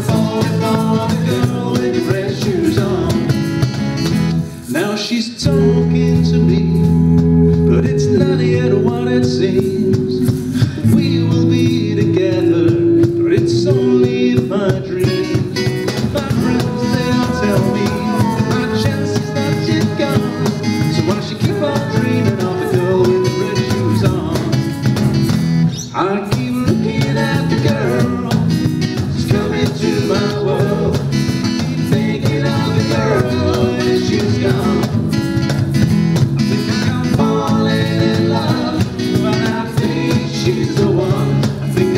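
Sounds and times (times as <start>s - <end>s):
live band with guitar and singing: 0.0s - 41.9s.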